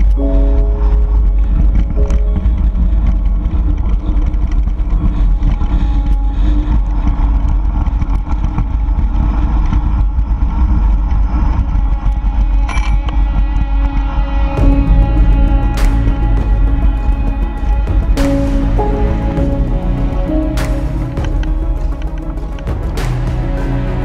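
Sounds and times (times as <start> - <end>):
bike tyres rolling on dirt: 0.0 - 23.4
wind rushing over microphone: 0.0 - 24.0.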